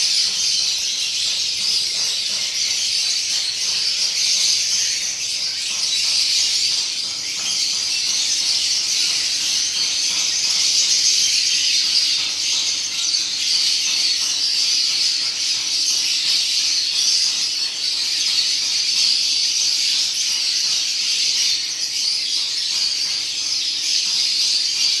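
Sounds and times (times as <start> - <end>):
lovebirds chattering: 0.0 - 25.0.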